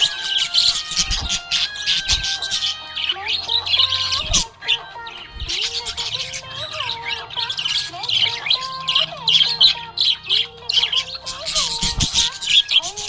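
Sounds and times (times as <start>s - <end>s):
budgie chirping: 0.0s - 13.0s
instrumental music: 0.0s - 13.0s.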